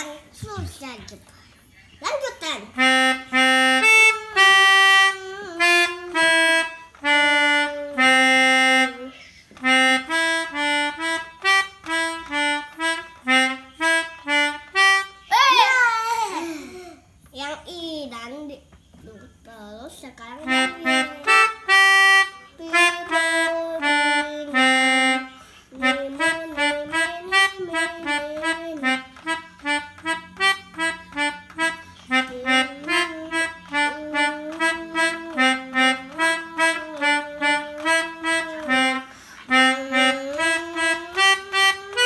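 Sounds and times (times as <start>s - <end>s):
melodica playing quick tune: 2.8s - 15.3s, 20.5s - 42.0s.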